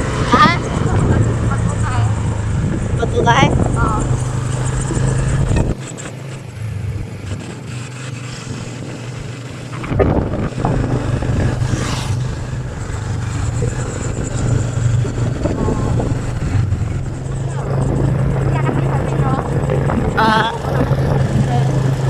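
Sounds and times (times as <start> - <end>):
motorbike engine running: 0.0 - 22.0
wind rumbling on microphone: 0.0 - 22.0.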